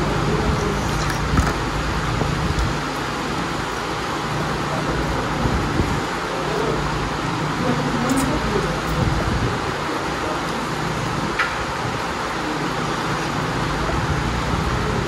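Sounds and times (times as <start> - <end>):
restaurant background hiss: 0.0 - 15.0.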